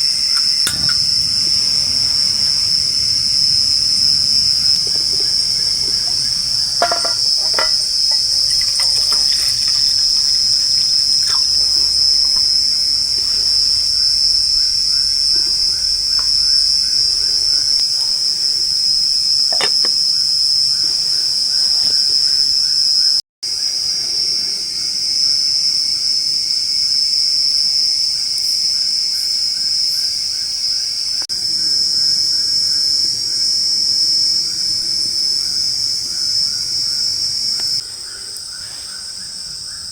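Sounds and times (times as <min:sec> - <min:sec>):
insects droning: 0:00.0 - 0:39.9
pulsing insect call: 0:00.0 - 0:39.9.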